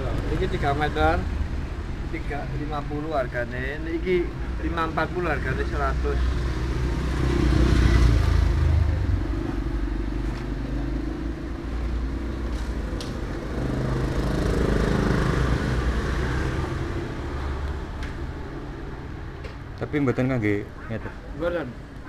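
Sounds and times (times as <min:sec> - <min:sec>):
motor scooters passing: 0:00.0 - 0:03.0, 0:04.3 - 0:22.0.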